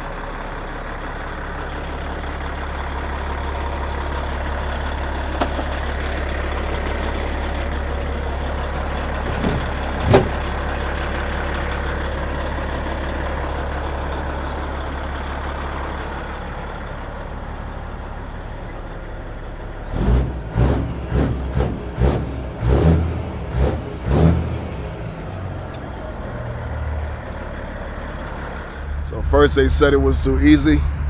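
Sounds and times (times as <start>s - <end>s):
diesel truck engine running: 0.0s - 30.8s.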